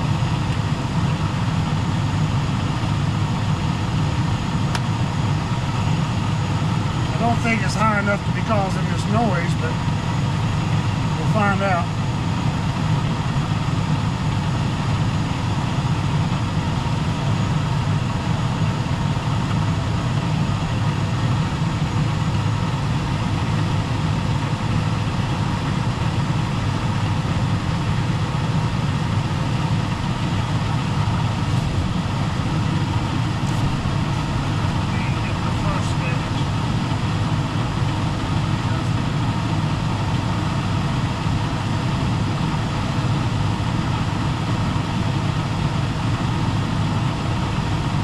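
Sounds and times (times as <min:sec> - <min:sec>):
gas furnace rumbling: 0:00.0 - 0:48.0.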